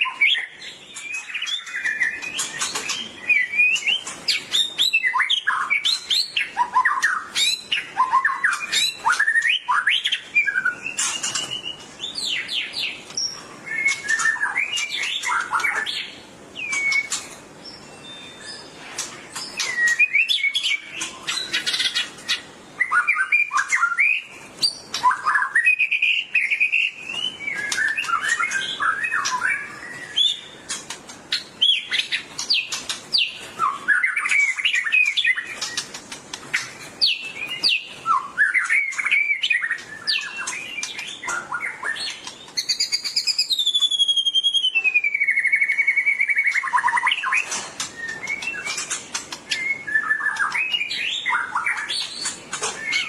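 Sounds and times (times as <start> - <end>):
bird singing whistled phrases: 0.0 - 18.8, 19.4 - 30.8, 31.4 - 53.0.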